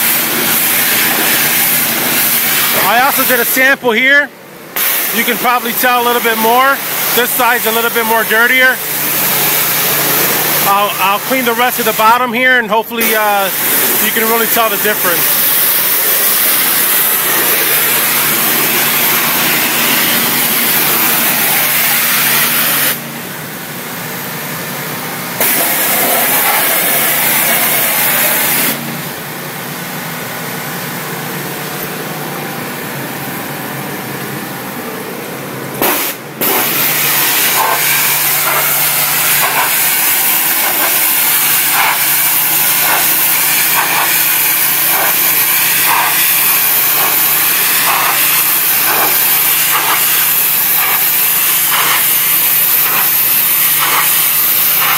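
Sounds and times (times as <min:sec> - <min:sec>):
engine running: 0:00.0 - 0:03.4, 0:04.3 - 0:11.9, 0:13.4 - 0:54.9
pressure washer spray hissing: 0:00.0 - 0:03.8, 0:04.7 - 0:12.4, 0:13.0 - 0:23.2, 0:23.8 - 0:29.1, 0:35.8 - 0:54.9.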